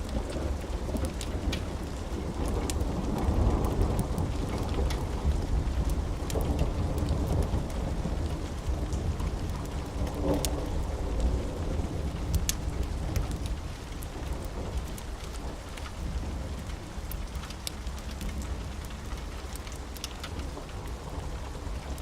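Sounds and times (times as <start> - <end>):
low rumble of thunder: 0.0 - 22.0
steady rain: 0.0 - 22.0
wood fire crackling: 0.0 - 22.0.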